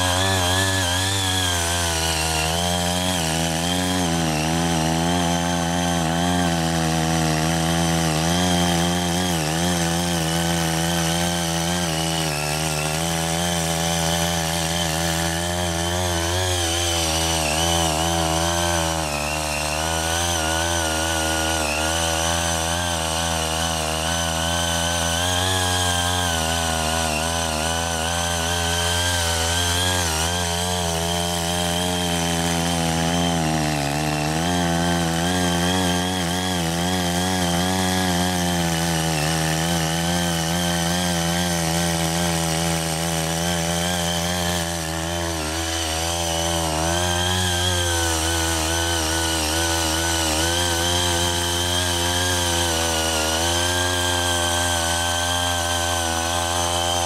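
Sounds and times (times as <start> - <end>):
tiller engine running: 0.0 - 57.0
tines churning soil: 0.0 - 57.0.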